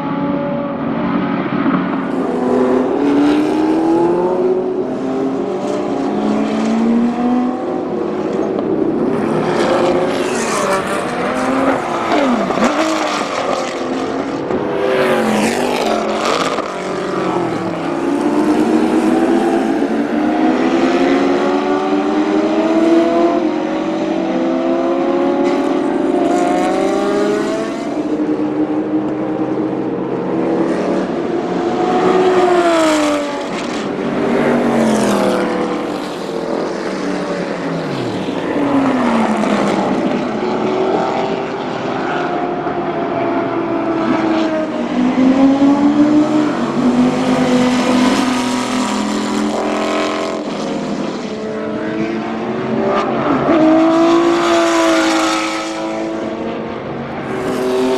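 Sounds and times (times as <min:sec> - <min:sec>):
racing car engines passing: 0:00.0 - 0:57.9.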